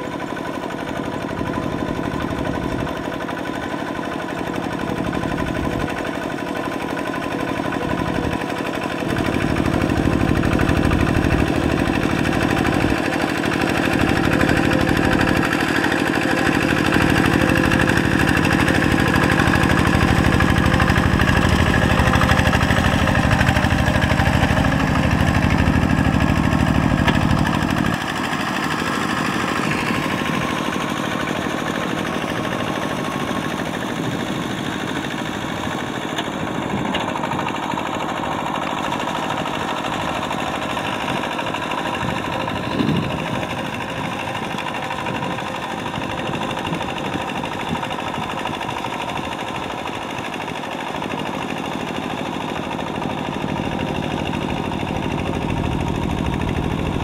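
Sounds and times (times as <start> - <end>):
walking tractor diesel engine chugging: 0.0 - 57.0.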